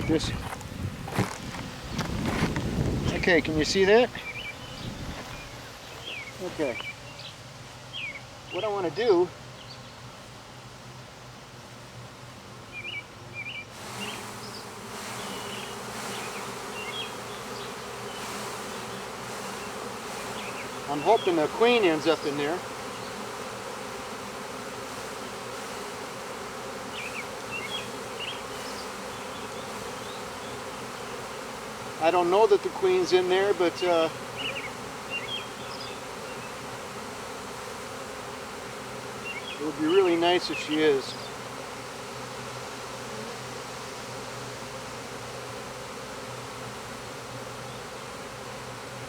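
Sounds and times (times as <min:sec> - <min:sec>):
bees buzzing: 0:00.0 - 0:49.0.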